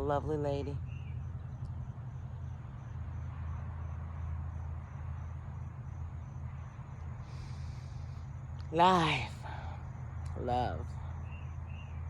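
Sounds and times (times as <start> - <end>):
constant low rumble: 0.0 - 12.0
crickets chirping: 0.0 - 12.0.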